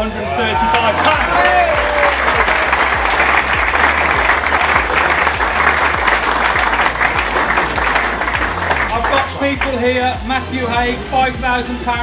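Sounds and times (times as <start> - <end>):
crowd applauding: 0.3 - 10.1.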